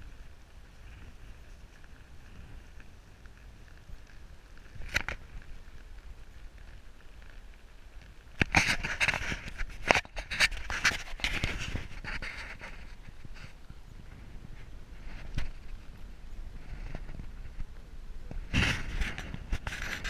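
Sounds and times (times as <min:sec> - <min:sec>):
hooves and grass rustling: 0:00.0 - 0:20.0
wind rumble on microphone: 0:00.0 - 0:20.0.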